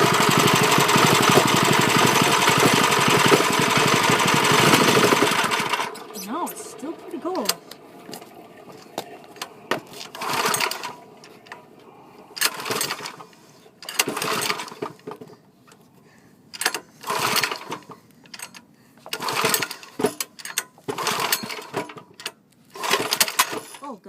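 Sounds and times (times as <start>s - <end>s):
engine pull-start cranking: 0.0s - 11.7s, 12.3s - 15.4s, 16.5s - 23.9s.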